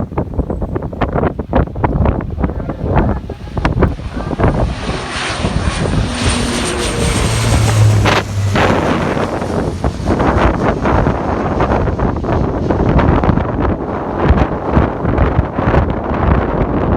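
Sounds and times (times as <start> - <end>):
wind buffeting microphone: 0.0 - 16.9
airplane flying low past: 0.1 - 16.9.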